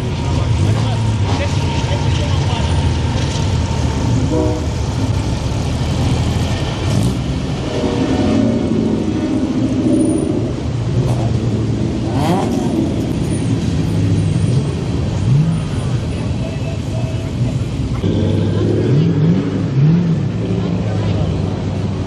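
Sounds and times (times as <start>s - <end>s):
car engines idling: 0.0s - 22.0s
engine revving: 0.3s - 16.1s, 17.8s - 22.0s.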